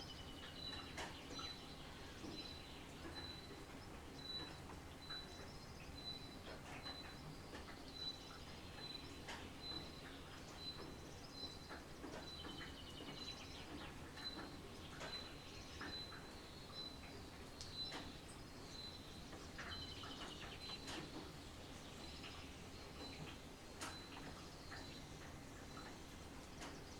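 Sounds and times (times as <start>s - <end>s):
rain dripping taps: 0.4s - 26.9s.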